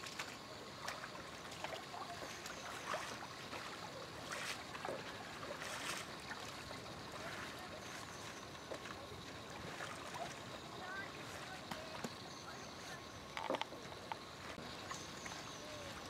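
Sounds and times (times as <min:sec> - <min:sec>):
paddles splashing in water: 0:00.0 - 0:16.0.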